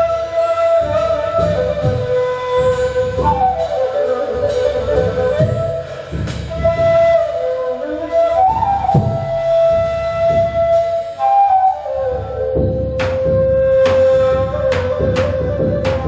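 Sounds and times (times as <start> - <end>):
low drum strokes: 0.0 - 16.0
reed flute long notes: 0.0 - 16.0.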